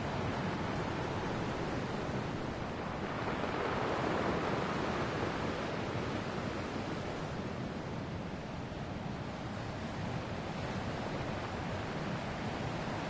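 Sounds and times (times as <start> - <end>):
ocean waves washing onto shore: 0.0 - 13.0.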